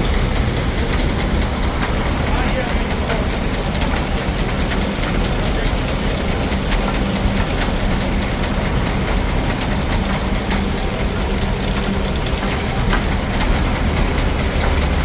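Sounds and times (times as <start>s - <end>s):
fast regular ticking: 0.0s - 15.0s
steam engine and sawmill running: 0.0s - 15.0s.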